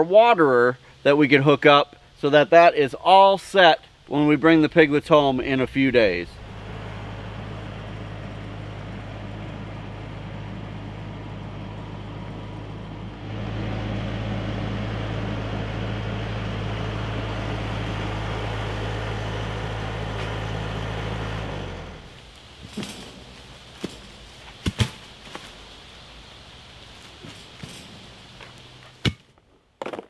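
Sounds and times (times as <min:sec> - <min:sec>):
tractor engine running: 0:05.1 - 0:29.4.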